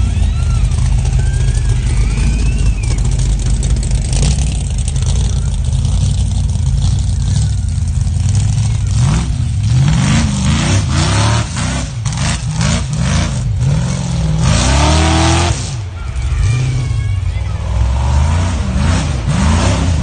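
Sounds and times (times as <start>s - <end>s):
buggy engine revving under load: 0.0s - 20.0s.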